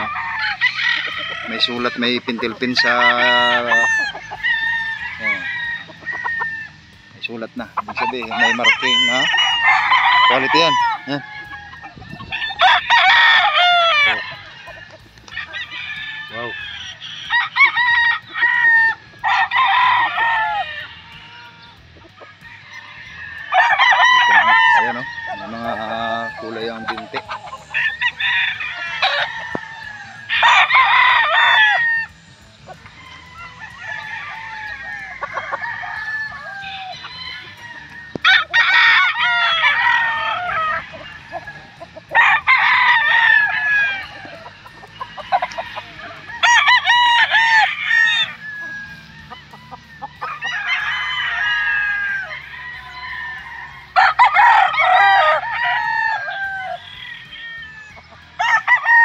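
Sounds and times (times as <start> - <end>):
birds clucking: 0.0 - 59.0
roosters crowing: 0.0 - 59.0.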